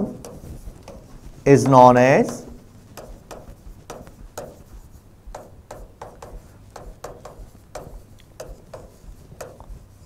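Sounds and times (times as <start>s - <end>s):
chalk scratching on chalkboard: 0.0s - 10.0s.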